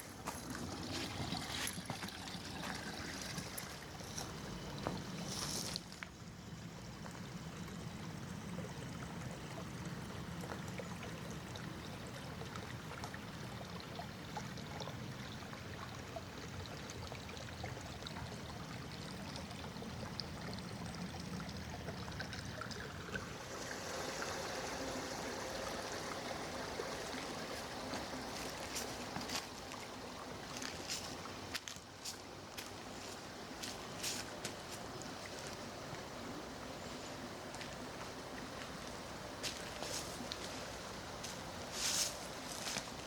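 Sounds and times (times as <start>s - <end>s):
small stream running: 0.0s - 43.0s.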